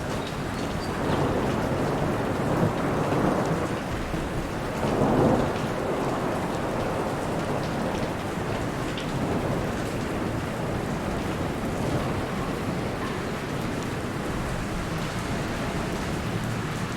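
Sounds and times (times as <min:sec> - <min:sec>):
rain pattering on a lake: 0:00.0 - 0:16.9.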